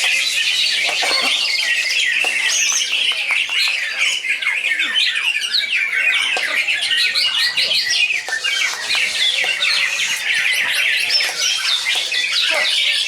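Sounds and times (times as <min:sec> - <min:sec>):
birds singing whistles and chatter: 0:00.0 - 0:13.0.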